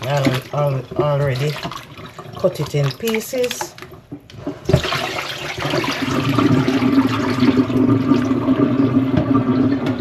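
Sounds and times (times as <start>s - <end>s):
tap water splashing: 0.0s - 10.0s.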